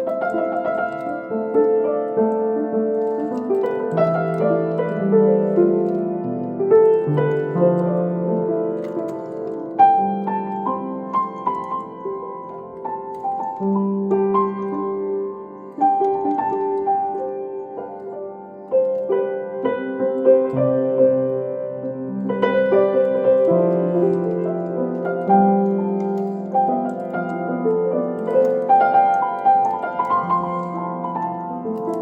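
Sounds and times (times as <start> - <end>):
grand piano melody: 0.0 - 32.0.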